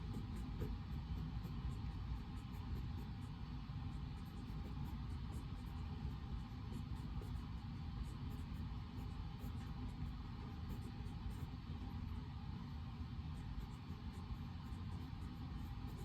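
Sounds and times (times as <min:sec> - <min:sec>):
white noise with low rumble: 0:00.0 - 0:16.0.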